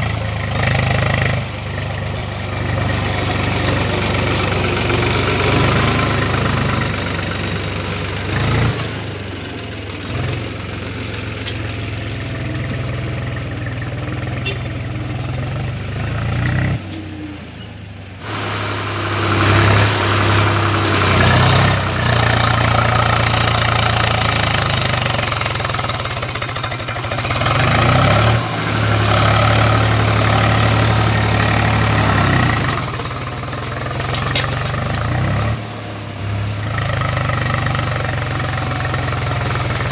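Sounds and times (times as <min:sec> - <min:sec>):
diesel tractor engine throbbing: 0:00.0 - 0:39.9.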